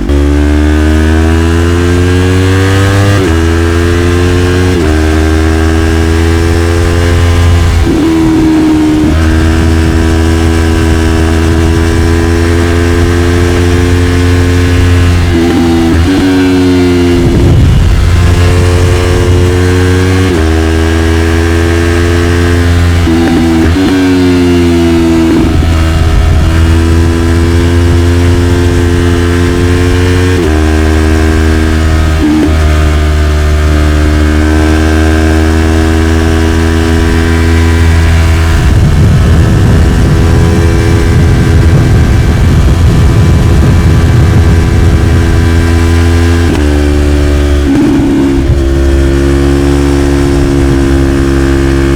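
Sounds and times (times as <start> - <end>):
motorcycle engine at high revs: 0.0 - 51.9.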